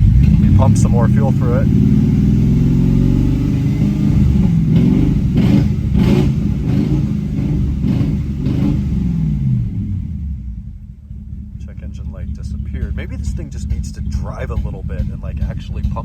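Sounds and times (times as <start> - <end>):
engine revving without exhaust: 0.0 - 16.0.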